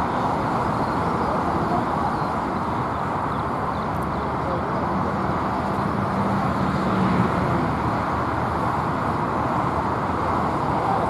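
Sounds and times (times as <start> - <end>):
engine and road noise: 0.0 - 11.0.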